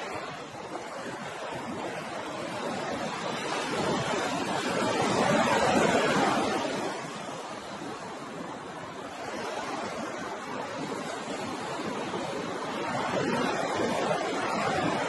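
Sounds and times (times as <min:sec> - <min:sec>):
ocean waves on shore: 0:00.0 - 0:15.0.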